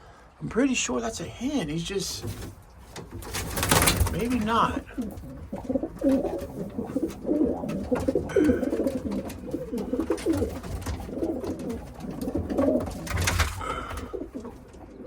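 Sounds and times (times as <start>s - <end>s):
pigeons cooing: 2.2s - 15.0s.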